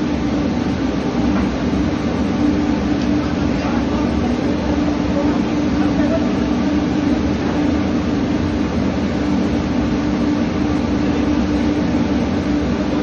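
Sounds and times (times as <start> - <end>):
ship machinery drone: 0.0 - 13.0.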